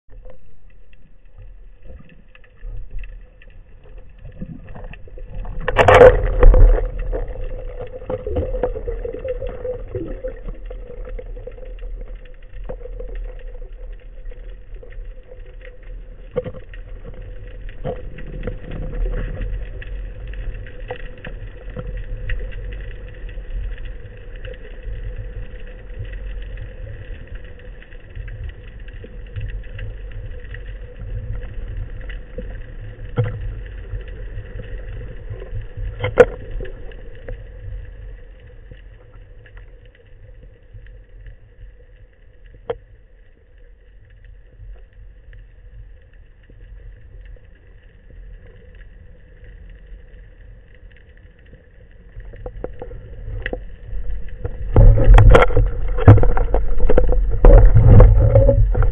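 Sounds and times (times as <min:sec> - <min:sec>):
faint steady hum: 0:00.1 - 0:58.9
low underwater rumble: 0:00.1 - 0:58.9.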